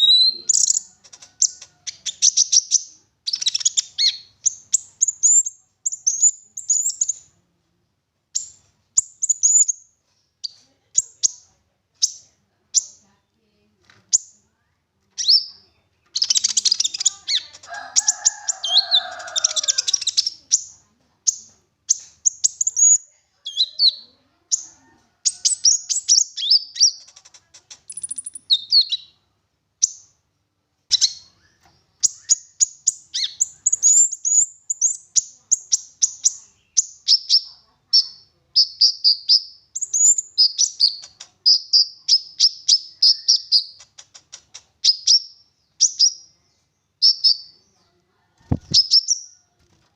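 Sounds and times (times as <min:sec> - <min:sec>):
songbird chirps and trills: 0:00.0 - 0:49.9.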